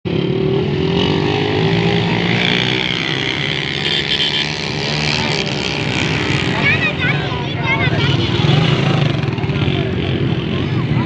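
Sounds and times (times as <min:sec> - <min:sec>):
motorcycle engine running: 0:00.1 - 0:11.0.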